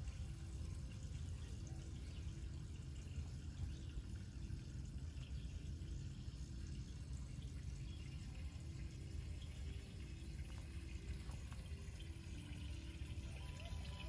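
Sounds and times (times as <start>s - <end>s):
steady low rumble: 0.0s - 13.3s
faint water sounds: 0.0s - 14.0s.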